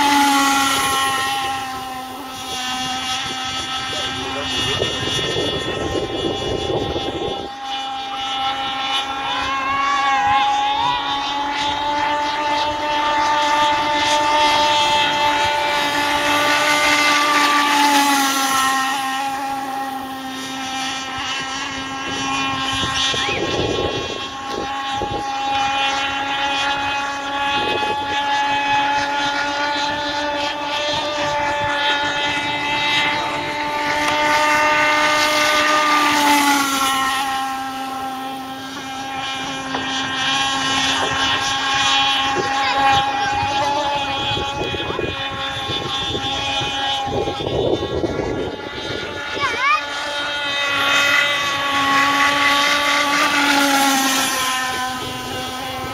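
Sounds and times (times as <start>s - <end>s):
two-stroke engine high drone: 0.0s - 55.9s.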